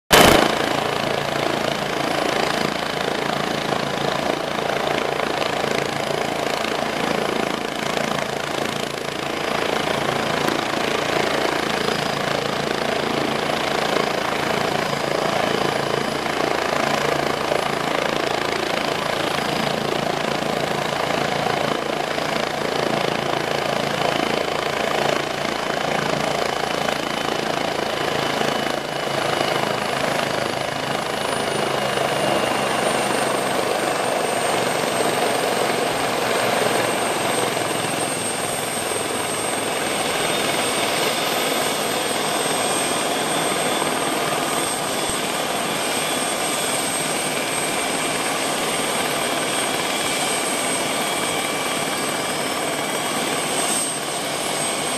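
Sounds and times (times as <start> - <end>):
helicopter engine and rotor: 0.1 - 54.9.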